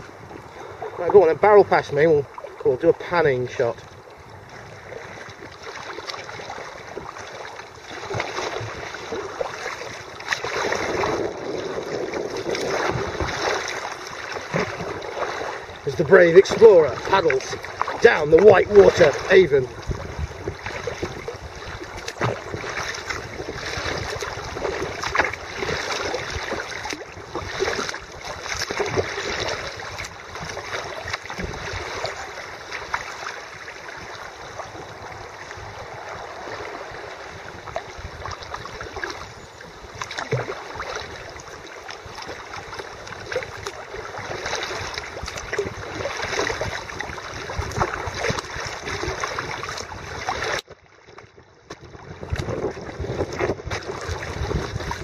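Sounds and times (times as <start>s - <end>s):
river water rushing and splashing: 0.0s - 51.2s, 52.0s - 55.0s.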